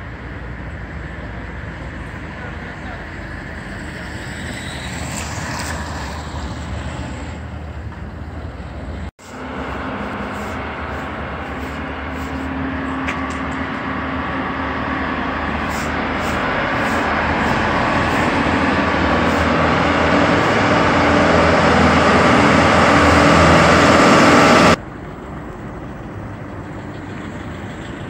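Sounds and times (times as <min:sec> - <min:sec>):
street traffic noise: 0:00.0 - 0:28.0
vehicle engine and road noise: 0:00.0 - 0:28.0.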